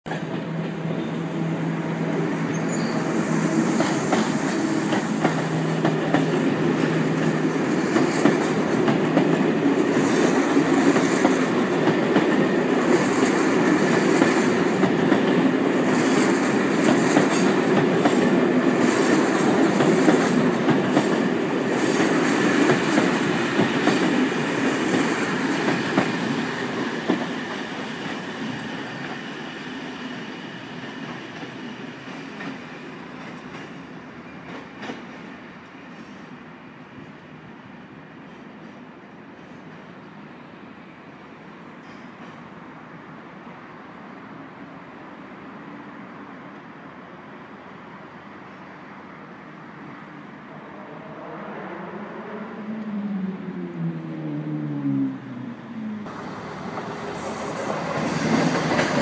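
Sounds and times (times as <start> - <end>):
train wheels rumbling on rail: 0.1 - 40.2, 41.7 - 42.9, 49.8 - 59.0.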